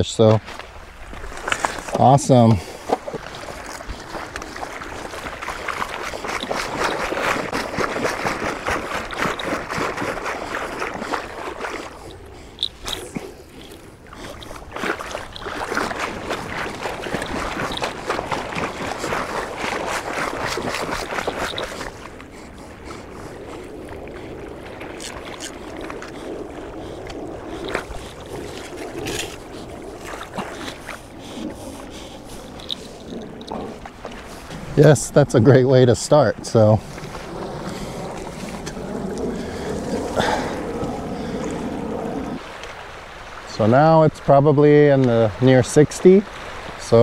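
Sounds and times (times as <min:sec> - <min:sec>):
lake water sloshing and lapping: 0:00.0 - 0:47.0.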